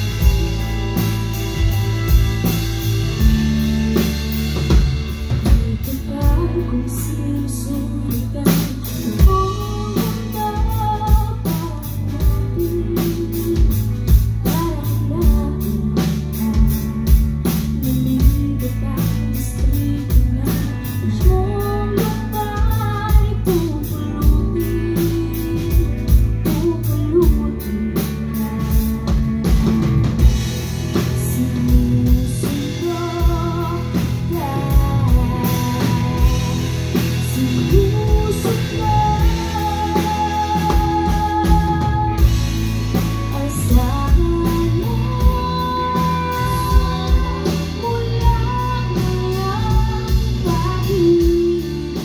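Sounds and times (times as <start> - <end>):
person singing: 0.0 - 29.9, 30.9 - 52.0
drum kit: 0.0 - 52.0
electric guitar: 0.0 - 52.0.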